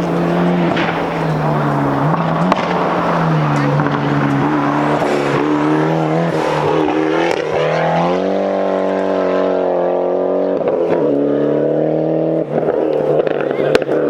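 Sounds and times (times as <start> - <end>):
rally car engine running hard: 0.0 - 14.0.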